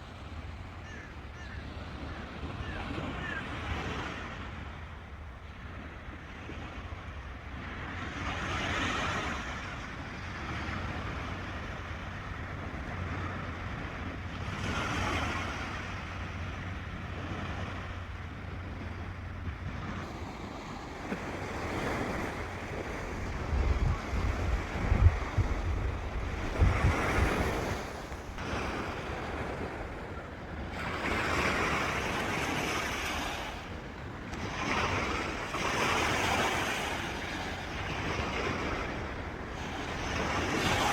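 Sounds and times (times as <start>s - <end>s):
sea waves breaking on shore: 0.0s - 40.9s
wind rumbling on microphone: 0.0s - 40.9s.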